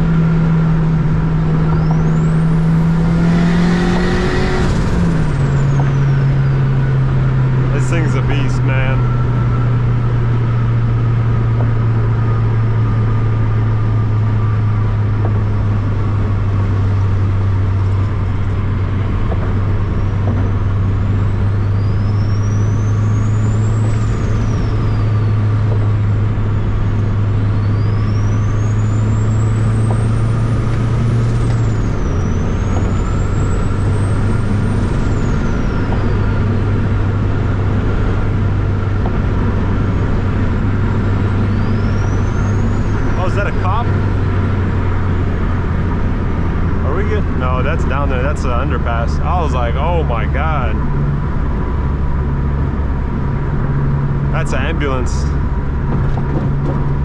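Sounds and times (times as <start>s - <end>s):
engine and road drone: 0.0s - 57.0s
turbo whine: 0.0s - 57.0s.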